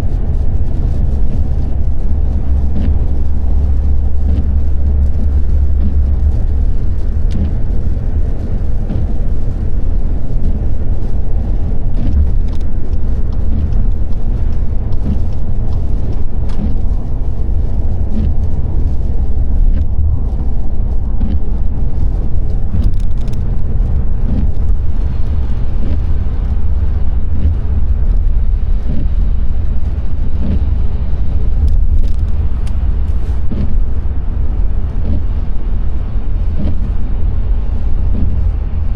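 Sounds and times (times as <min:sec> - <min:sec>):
road and engine rumble: 0:00.0 - 0:38.9
faint ticks: 0:00.8 - 0:33.8.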